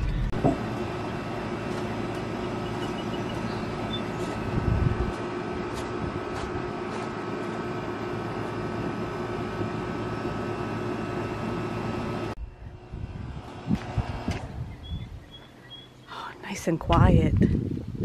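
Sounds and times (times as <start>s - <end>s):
mechanical drone with hum: 0.0s - 18.0s.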